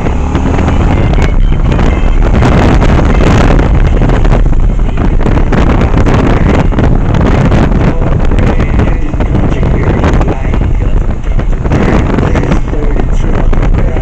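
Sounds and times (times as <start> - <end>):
motorcycle engine rumble: 0.0 - 14.0
wind buffeting on microphone: 0.0 - 14.0.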